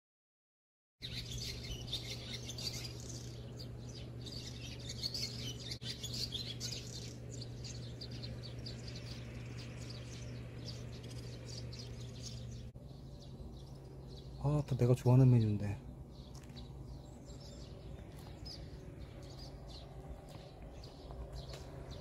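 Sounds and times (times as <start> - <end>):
birds chirping: 1.0 - 22.0
steady low hum: 1.0 - 22.0.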